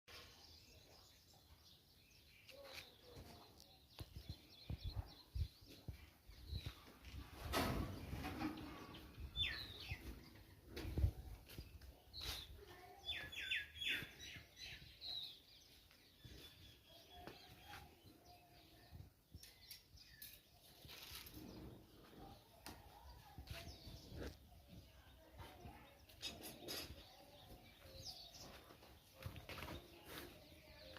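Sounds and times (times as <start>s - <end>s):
birds chirping faintly: 0.1s - 30.9s.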